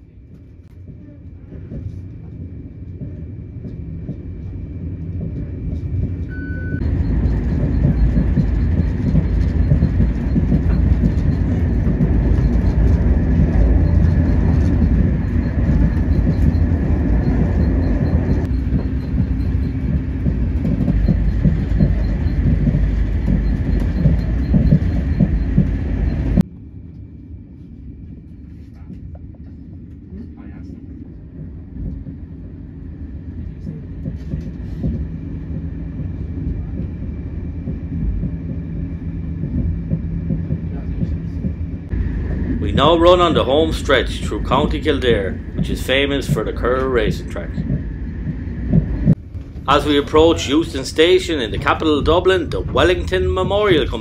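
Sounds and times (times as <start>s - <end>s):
train wheels rumbling on track: 0.0s - 26.6s, 27.6s - 54.0s.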